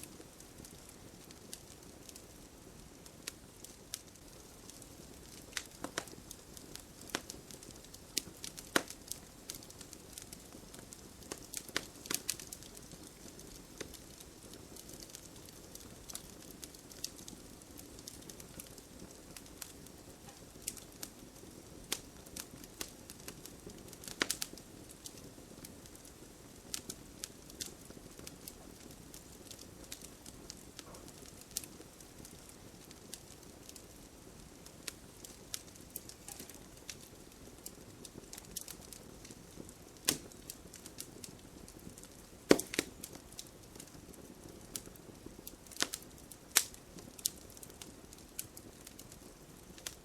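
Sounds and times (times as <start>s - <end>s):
campfire wood crackling and popping: 0.0s - 50.0s
flames hissing: 0.1s - 43.5s.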